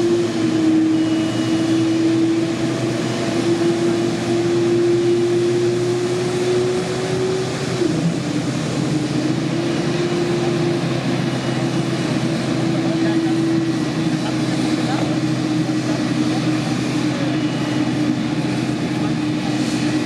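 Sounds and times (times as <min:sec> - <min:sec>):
jet engines running with whine: 0:00.0 - 0:20.0.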